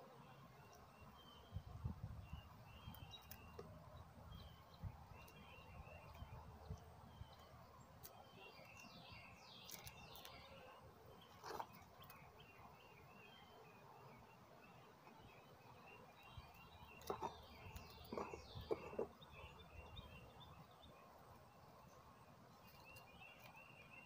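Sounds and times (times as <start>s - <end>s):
faint bird chirps: 0.0s - 21.1s.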